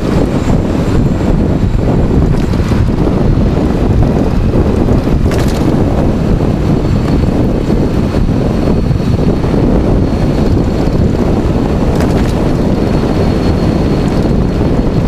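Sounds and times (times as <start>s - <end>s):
tyre and road rumble: 0.0s - 15.0s
wind on microphone: 0.0s - 15.0s.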